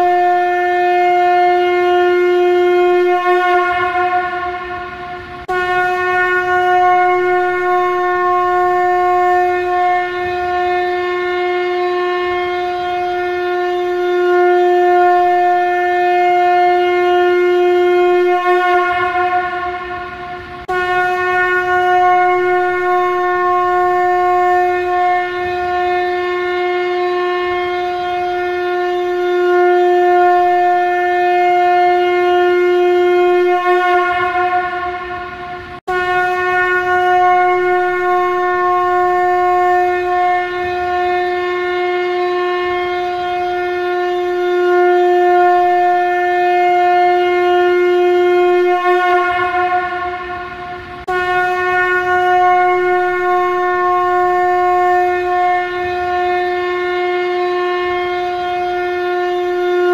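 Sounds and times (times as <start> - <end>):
conch shell blasts: 0.0 - 59.9.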